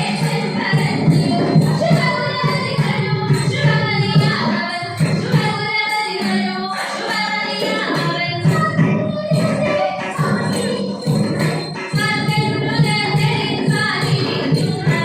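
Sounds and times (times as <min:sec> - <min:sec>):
bells jingling: 0:00.0 - 0:15.0
drum rhythm: 0:00.0 - 0:15.0
small hand cymbals: 0:00.0 - 0:15.0
woman singing verses: 0:00.0 - 0:15.0.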